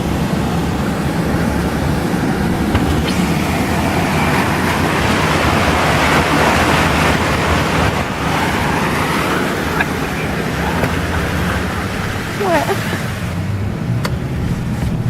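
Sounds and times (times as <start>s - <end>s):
car engine running: 0.0s - 15.0s
floodwater rushing around car: 0.0s - 15.0s.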